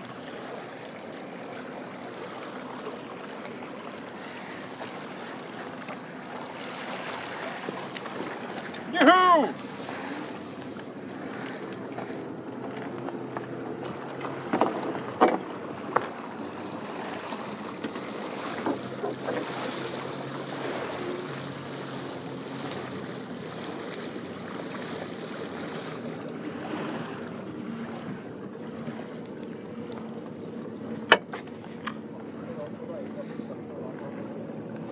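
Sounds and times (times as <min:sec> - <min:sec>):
water against boat: 0:00.0 - 0:34.9
wind: 0:00.0 - 0:34.9.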